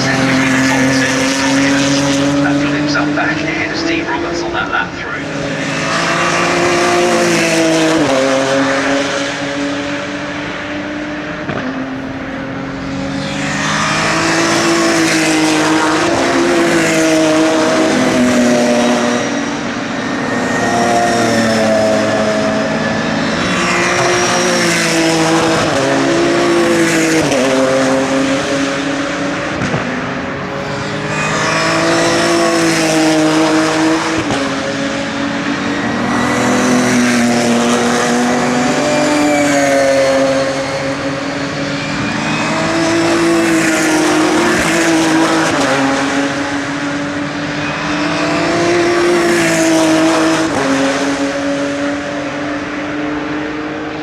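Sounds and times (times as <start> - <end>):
racing cars passing at full throttle: 0.0 - 54.0.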